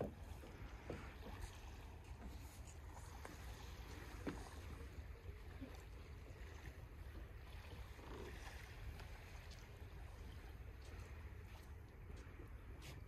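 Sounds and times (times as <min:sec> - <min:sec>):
faint sea surf: 0:00.0 - 0:13.0.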